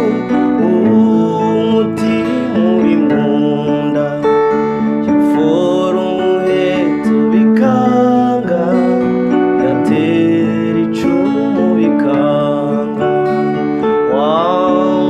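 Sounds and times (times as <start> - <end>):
acoustic guitar strumming: 0.0 - 15.0
keyboard sustained chords: 0.0 - 15.0
man singing: 0.0 - 15.0.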